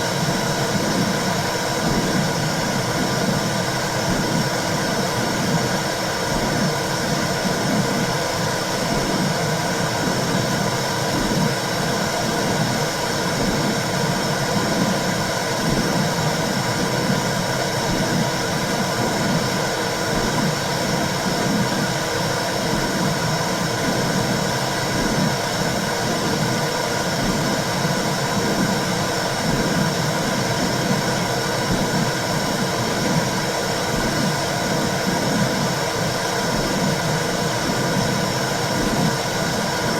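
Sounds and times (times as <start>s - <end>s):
low regular pulsing: 0.0s - 39.9s.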